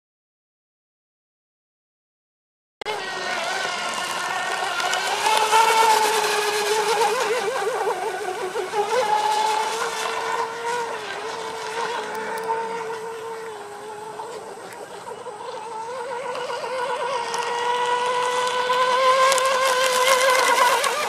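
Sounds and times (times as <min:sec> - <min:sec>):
rc boat motor whine: 0:02.8 - 0:21.0.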